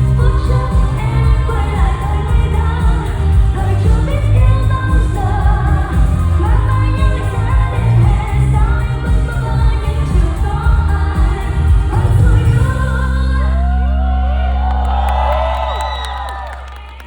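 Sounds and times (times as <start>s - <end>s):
person singing: 0.0s - 14.8s
live pop band with heavy bass: 0.0s - 15.3s.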